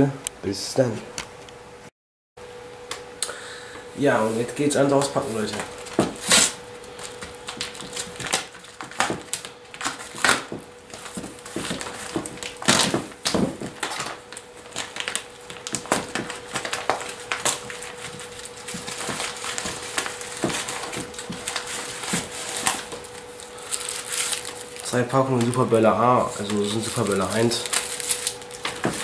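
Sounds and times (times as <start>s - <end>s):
plastic wrap crinkling: 4.2s - 29.0s
cardboard boxes shifting: 5.0s - 29.0s.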